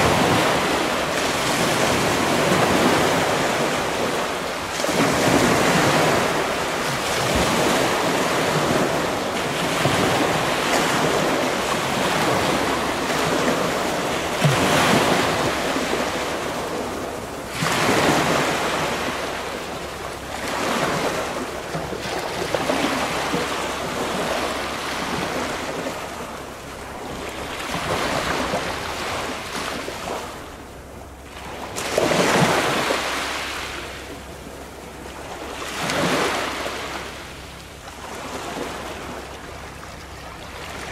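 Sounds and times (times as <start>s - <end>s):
sea waves washing onto shore: 0.0s - 40.9s.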